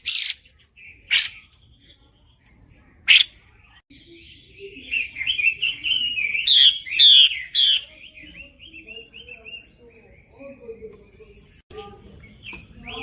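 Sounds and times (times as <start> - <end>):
bird calling and chirping: 0.0 - 13.0.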